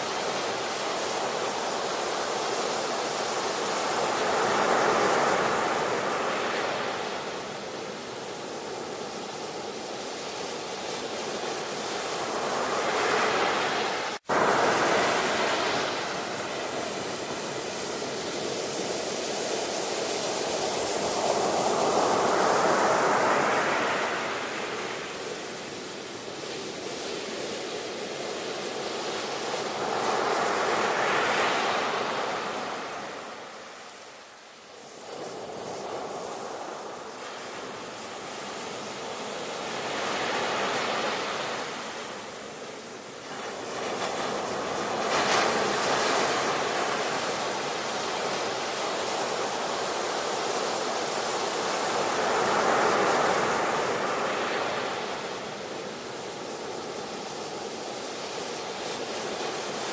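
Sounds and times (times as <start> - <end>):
ocean waves breaking: 0.0 - 34.1, 34.7 - 59.9.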